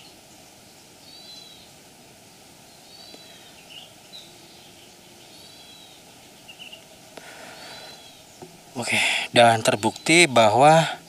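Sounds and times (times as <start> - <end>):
birds calling: 0.0 - 11.0
steady hiss: 0.0 - 11.0.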